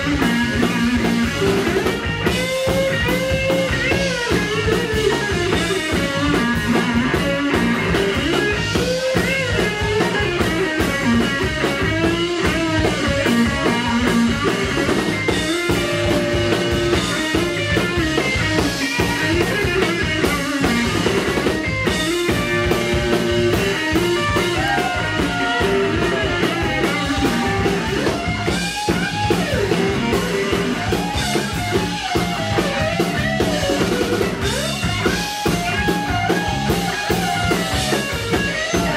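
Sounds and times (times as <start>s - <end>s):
drum kit: 0.0s - 38.9s
electric guitar lead: 0.0s - 38.9s.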